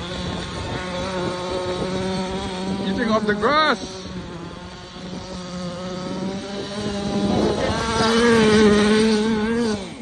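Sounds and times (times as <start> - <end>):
rc car engine revving: 0.0 - 10.0.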